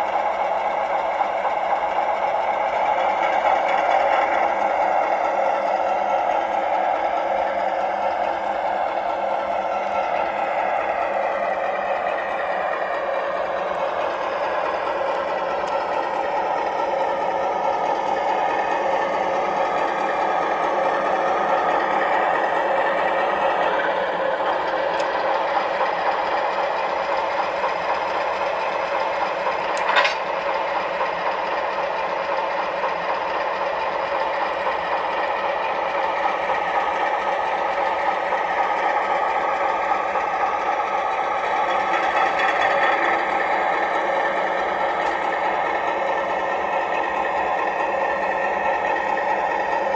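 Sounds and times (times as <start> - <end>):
model locomotive engine rumble: 0.0 - 49.9.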